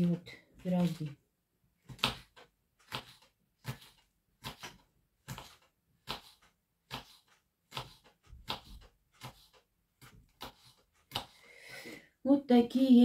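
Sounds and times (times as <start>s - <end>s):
knife chopping on wooden board: 0.0s - 1.2s, 1.8s - 11.4s.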